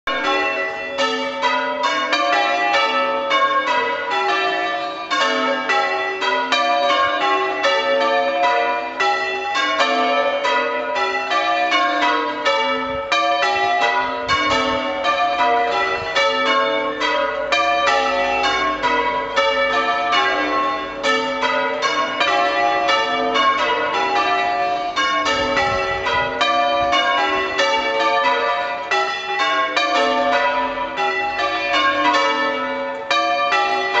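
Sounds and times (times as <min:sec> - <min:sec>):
church bells ringing: 0:00.1 - 0:34.0.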